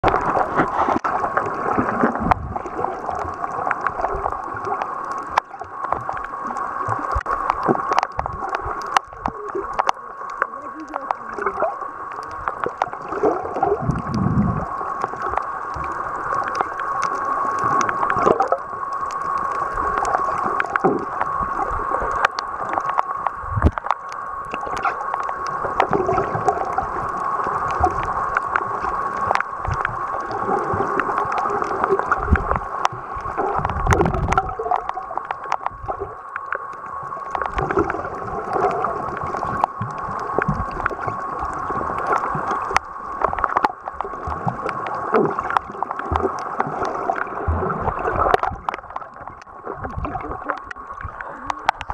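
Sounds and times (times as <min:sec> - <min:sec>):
constant mid-pitched hum: 0:00.0 - 0:51.9
underwater gurgling water: 0:00.0 - 0:51.9.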